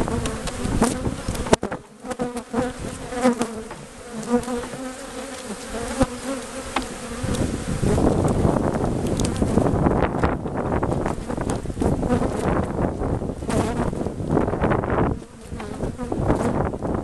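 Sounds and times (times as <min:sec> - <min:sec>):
wooden hive frames knocking: 0:00.0 - 0:12.8, 0:15.0 - 0:16.7
bees buzzing: 0:00.0 - 0:17.0
wind noise on microphone: 0:00.0 - 0:17.0.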